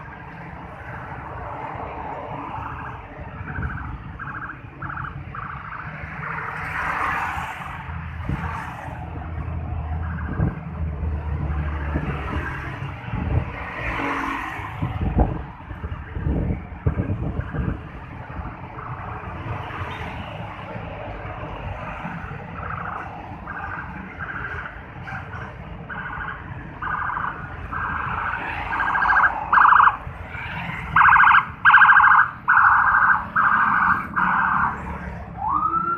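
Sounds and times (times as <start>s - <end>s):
motorcycle and car engines: 0.0s - 35.9s
street traffic rumble: 0.0s - 35.9s
vehicles passing: 0.0s - 35.9s.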